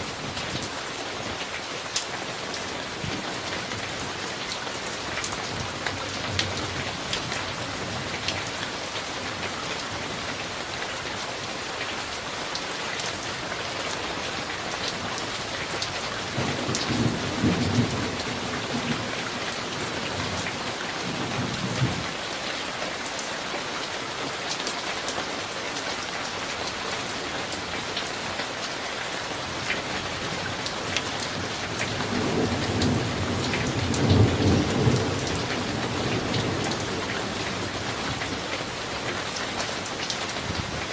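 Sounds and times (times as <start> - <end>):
raindrops ticking close by: 0.0 - 40.9
steady rain falling: 0.0 - 40.9.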